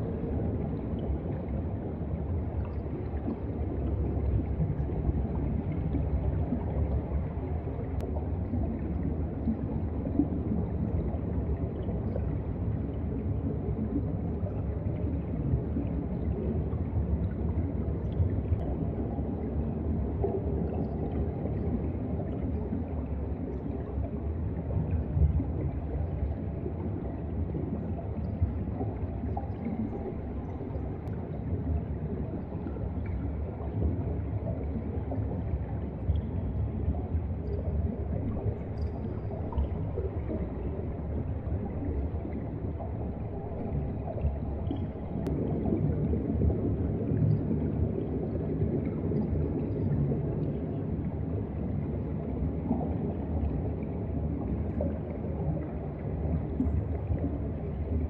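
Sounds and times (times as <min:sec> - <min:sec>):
underwater rumble of moving seawater: 0:00.0 - 0:58.0.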